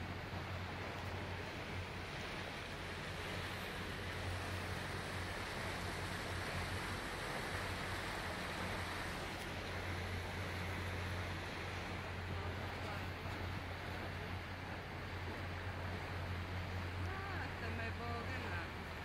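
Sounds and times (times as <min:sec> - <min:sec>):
motorboat engine hum: 0:00.0 - 0:19.0
water rushing along hull: 0:00.0 - 0:19.0.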